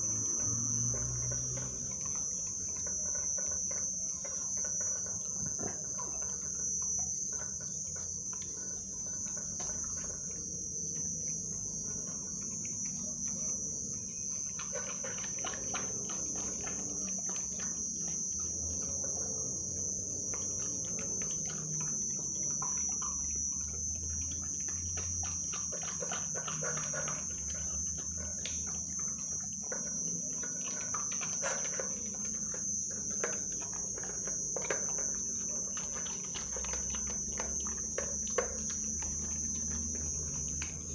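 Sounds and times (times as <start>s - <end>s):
crickets chirring: 0.0s - 40.9s
puppy chewing and crunching: 0.0s - 40.9s.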